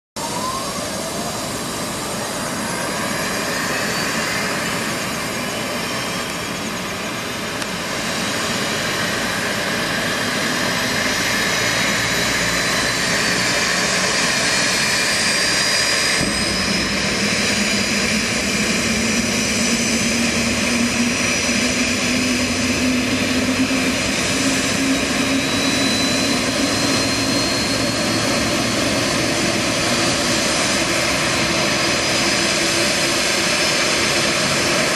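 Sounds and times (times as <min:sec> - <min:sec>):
jet engine whine spooling up: 0:00.2 - 0:34.9
low engine drone: 0:00.2 - 0:34.9.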